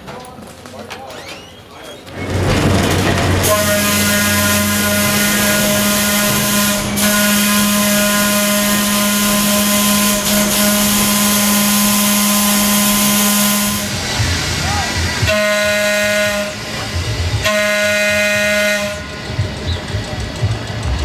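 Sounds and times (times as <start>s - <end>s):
wheel and track noise: 0.0s - 21.0s.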